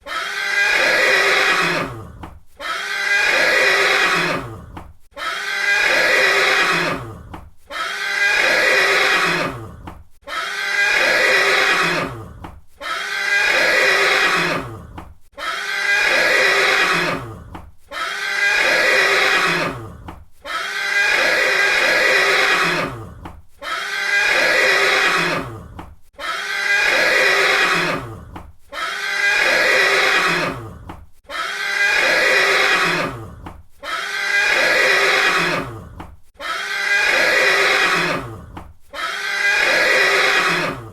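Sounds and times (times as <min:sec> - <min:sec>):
horse neighing: 0:00.0 - 0:04.6, 0:05.2 - 0:28.2, 0:28.8 - 0:40.9.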